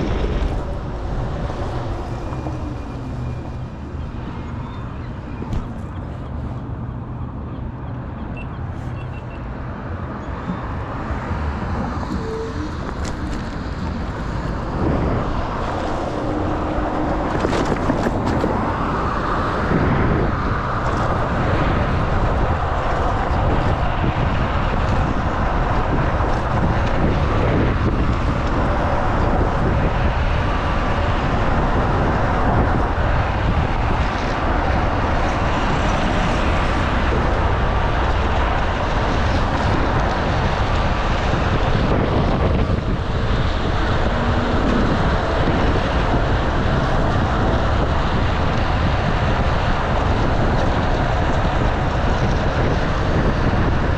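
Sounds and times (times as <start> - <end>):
road and tyre noise: 0.0 - 53.9
wind buffeting microphone: 0.0 - 53.9.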